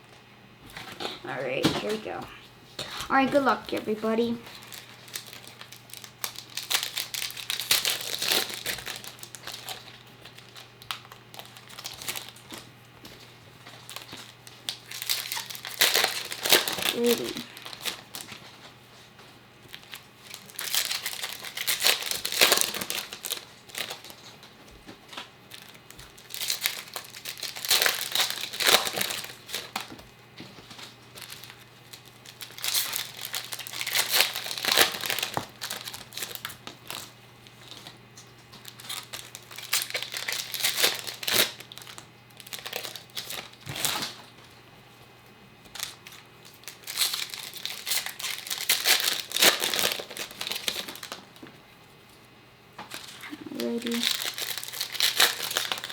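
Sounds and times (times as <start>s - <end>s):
card pack wrappers crinkling: 2.9s - 18.7s, 19.7s - 44.3s, 45.7s - 51.4s, 52.9s - 55.9s.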